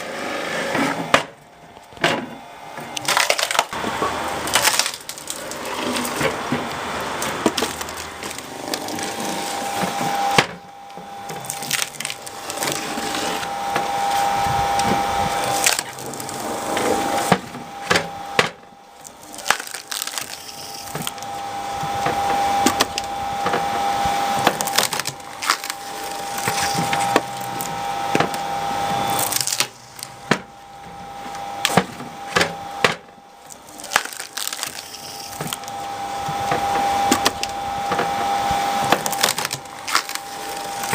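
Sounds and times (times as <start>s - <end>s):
log splitter drive humming: 0.0s - 40.9s
wood cracking and splintering: 1.2s - 40.9s.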